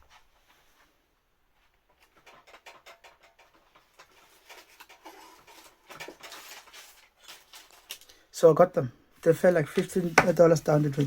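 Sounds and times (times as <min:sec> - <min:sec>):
crackling and clicking of handled objects: 0:00.0 - 0:08.3, 0:09.2 - 0:11.0.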